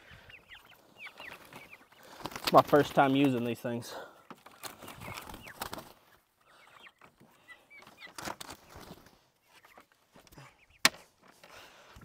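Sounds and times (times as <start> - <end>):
turkeys peeping: 0.0 - 11.0.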